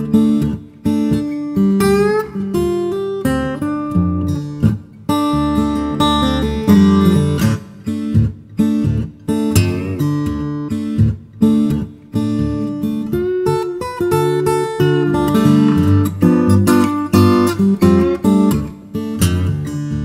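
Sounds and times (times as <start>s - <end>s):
acoustic guitar instrumental: 0.0s - 20.0s.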